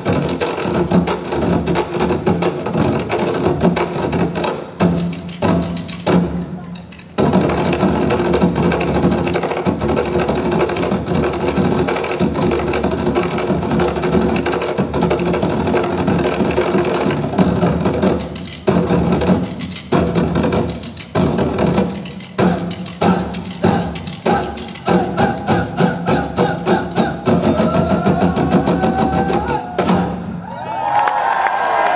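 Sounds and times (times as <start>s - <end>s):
drummers playing in unison: 0.0s - 31.0s.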